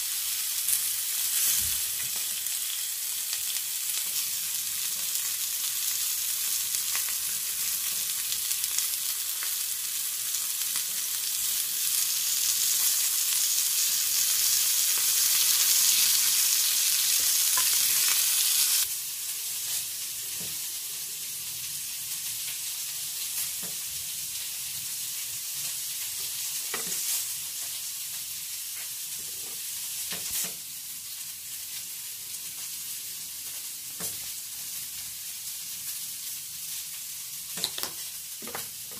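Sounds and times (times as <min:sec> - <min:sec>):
chicken sizzling on a grill pan: 0:00.0 - 0:38.9.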